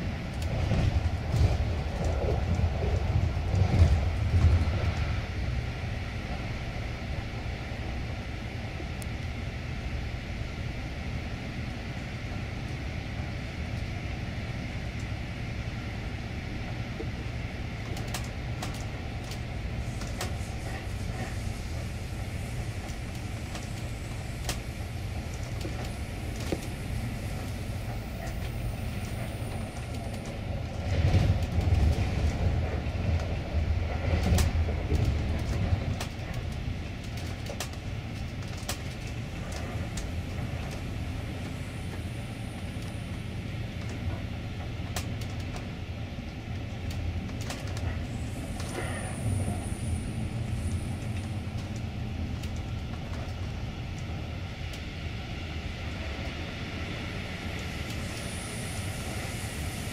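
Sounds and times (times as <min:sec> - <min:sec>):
freight train rumbling: 0:00.0 - 0:59.9
sharp clicks of train wheels: 0:00.2 - 0:05.3, 0:16.7 - 0:59.9.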